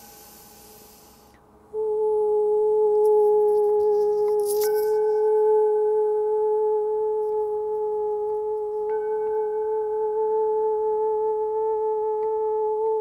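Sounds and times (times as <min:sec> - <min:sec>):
sustained pure ringing tone: 0:00.0 - 0:13.0.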